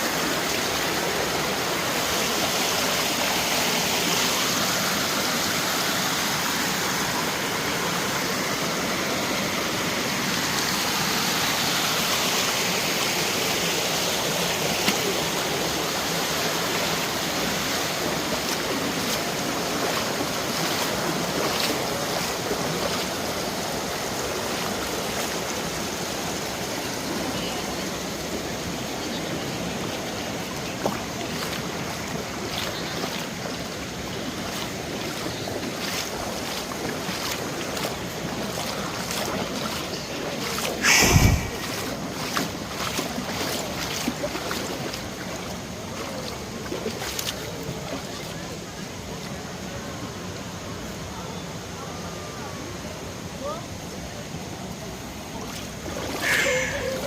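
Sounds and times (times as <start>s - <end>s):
stream water rushing over rocks: 0.0s - 57.0s.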